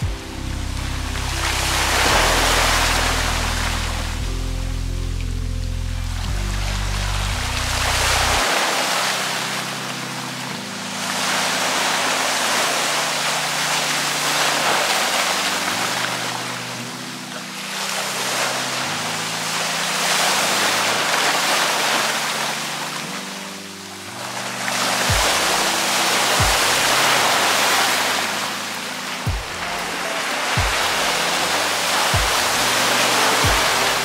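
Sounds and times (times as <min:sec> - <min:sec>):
slushy waves washing ashore: 0:00.0 - 0:04.4, 0:06.4 - 0:34.0
soft background music: 0:00.0 - 0:34.0.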